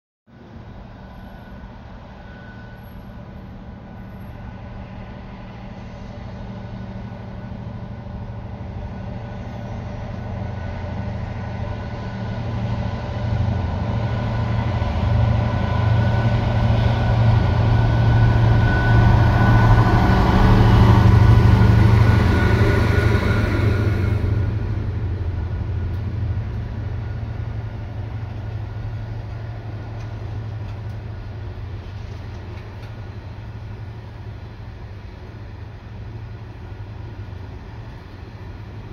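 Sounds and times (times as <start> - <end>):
diesel locomotive engine labouring: 0.3 - 38.9
train wagons rolling by: 1.0 - 38.9.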